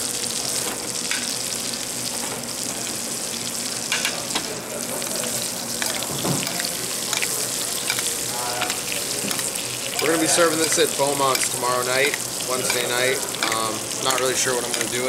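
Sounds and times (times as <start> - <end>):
fish frying in butter: 0.0 - 15.0.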